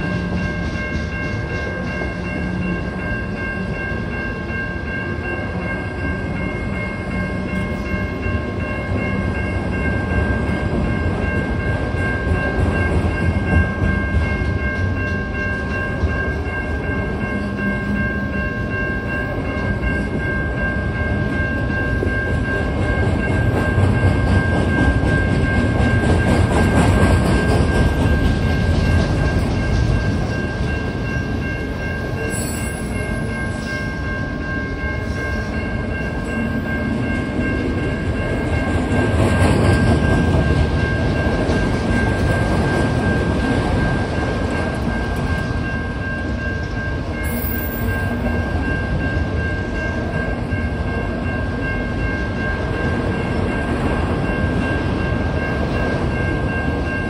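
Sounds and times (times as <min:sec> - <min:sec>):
freight train wheels rumbling on rails: 0:00.0 - 0:57.0
steady high-pitched tone: 0:00.0 - 0:57.0.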